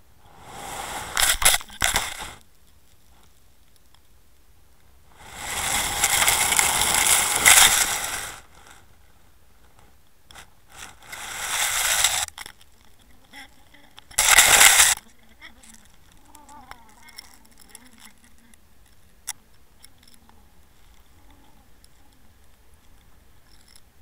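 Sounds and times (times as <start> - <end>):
camera scraping over shingle seabed: 0.4 - 3.9, 5.1 - 9.0, 9.7 - 23.9.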